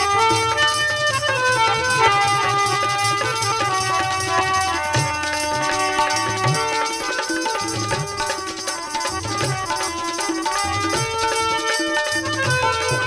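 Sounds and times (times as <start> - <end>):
hand drum strokes: 0.0 - 13.0
melody of held notes: 0.0 - 13.0.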